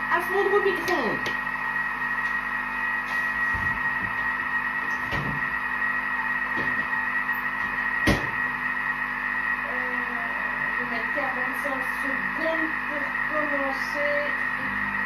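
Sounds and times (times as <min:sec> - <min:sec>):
kitchen mixer motor whirring: 0:00.0 - 0:15.0.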